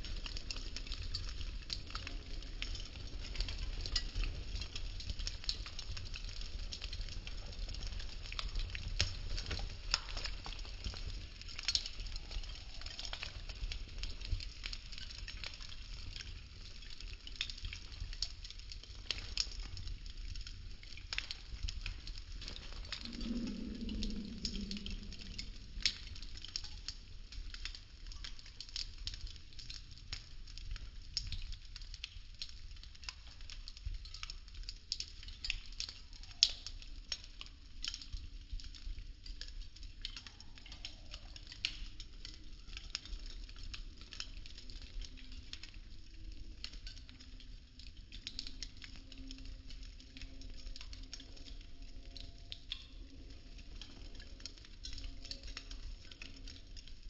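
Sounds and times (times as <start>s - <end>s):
burning sticks crackling: 0.0s - 57.0s.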